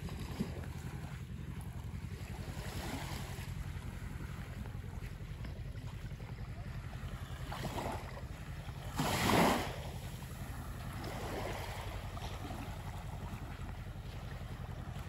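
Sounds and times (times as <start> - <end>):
small waves lapping on sand: 0.0 - 15.0
wind rumble on microphone: 0.0 - 15.0.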